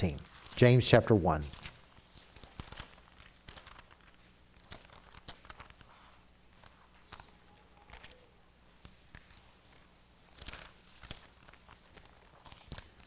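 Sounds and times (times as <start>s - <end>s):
faint low hum: 0.0s - 13.0s
thin pages rustling: 0.1s - 0.8s, 1.4s - 13.0s.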